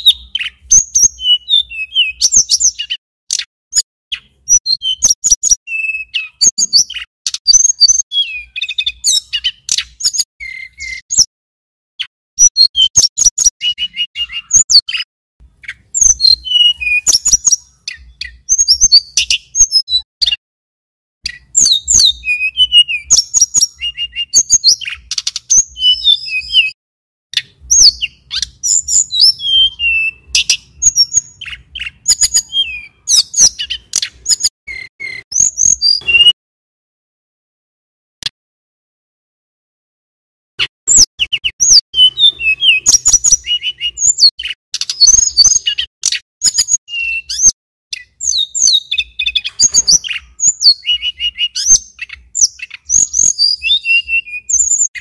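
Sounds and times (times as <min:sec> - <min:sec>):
bird singing high chirps and whistles: 0:00.0 - 0:11.3, 0:12.0 - 0:20.4, 0:21.2 - 0:26.8, 0:27.4 - 0:36.4, 0:40.6 - 0:55.0.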